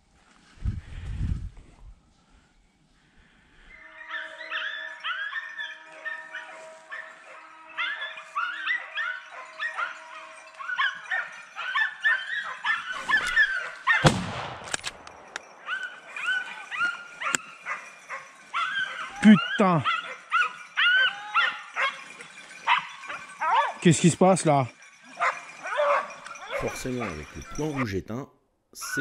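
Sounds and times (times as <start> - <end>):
hounds baying: 3.7 - 14.1, 15.0 - 28.0.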